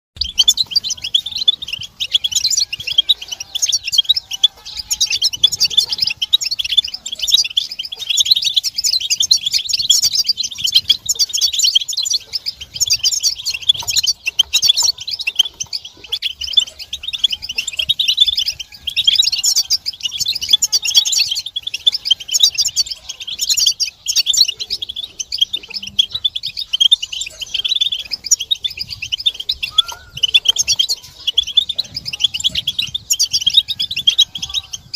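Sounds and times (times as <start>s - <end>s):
goldfinches twittering: 0.2s - 34.9s.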